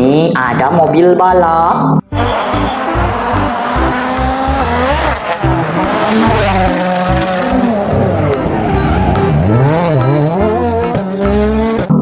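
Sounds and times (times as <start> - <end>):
background music: 0.0 - 12.0
racing car engine revving: 2.1 - 12.0.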